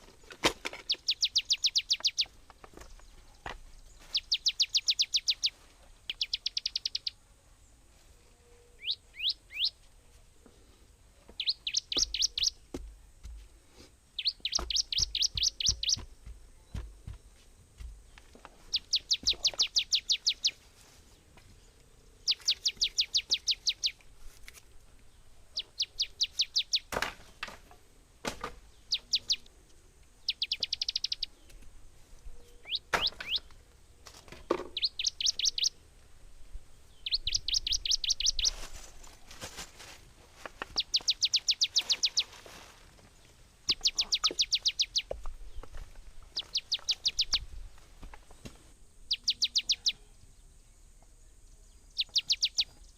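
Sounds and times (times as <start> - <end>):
bird chirping: 0.0 - 9.8, 11.2 - 13.4, 14.1 - 24.2, 24.9 - 27.5, 28.5 - 35.9, 36.5 - 38.8, 40.6 - 42.4, 43.2 - 47.6, 48.3 - 52.9.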